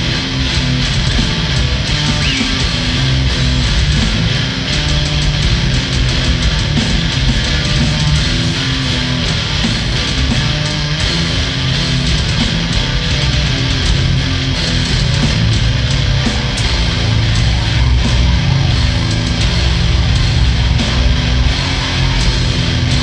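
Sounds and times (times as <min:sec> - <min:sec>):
heavy metal band playing: 0:00.0 - 0:23.0.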